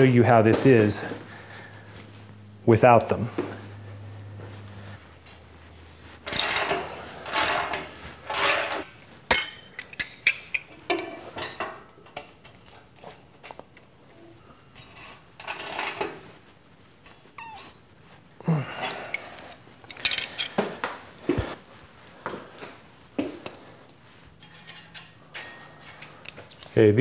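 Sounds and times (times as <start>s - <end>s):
rustling and scraping metal: 0.0s - 18.3s, 19.3s - 27.0s.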